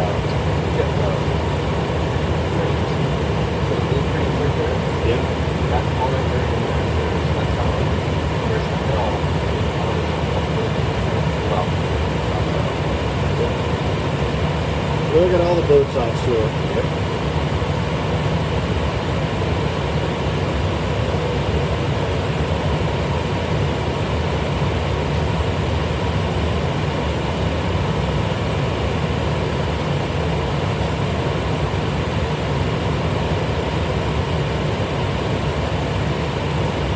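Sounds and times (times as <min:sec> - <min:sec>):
jet engine cabin drone: 0:00.0 - 0:36.9.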